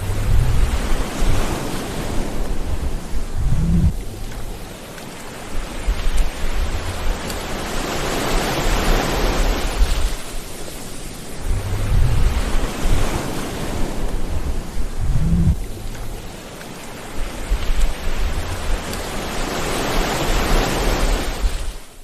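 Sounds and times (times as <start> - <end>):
ocean waves breaking on shore: 0.0 - 22.0.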